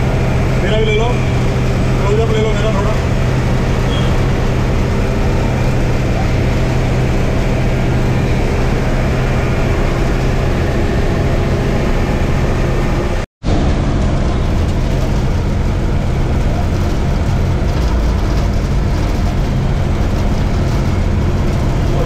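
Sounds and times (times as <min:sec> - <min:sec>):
bus engine and road drone: 0:00.0 - 0:22.0
low engine hum: 0:00.0 - 0:22.0.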